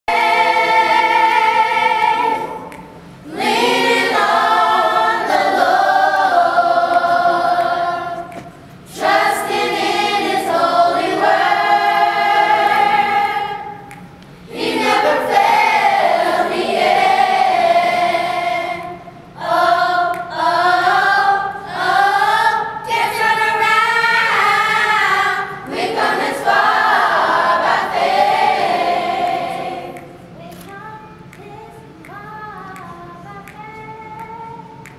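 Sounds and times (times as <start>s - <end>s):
children's choir singing: 0.1s - 30.3s.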